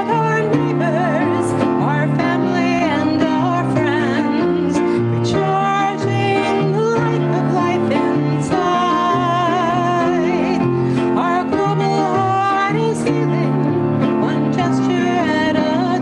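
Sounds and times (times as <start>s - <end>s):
instrumental accompaniment: 0.0s - 16.0s
woman singing with vibrato: 0.0s - 16.0s.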